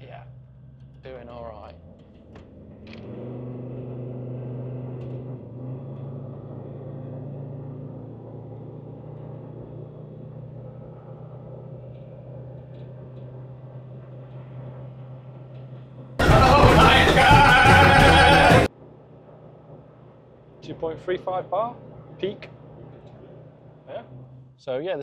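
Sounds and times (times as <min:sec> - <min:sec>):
diesel engine droning in cabin: 0:00.0 - 0:25.0.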